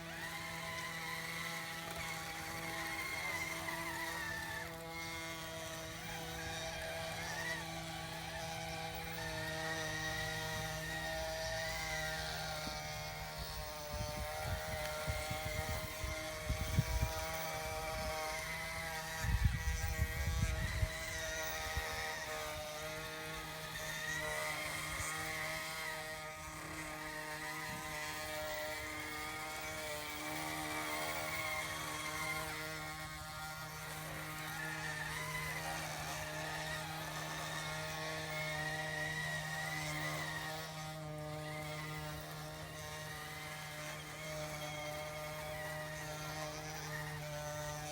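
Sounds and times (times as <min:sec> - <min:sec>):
model engine hum with whine: 0:00.0 - 0:47.9.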